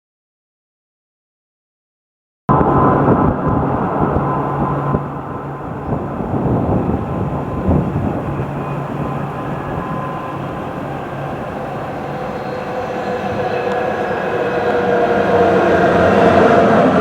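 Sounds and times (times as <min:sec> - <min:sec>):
train running: 0:02.6 - 0:17.0.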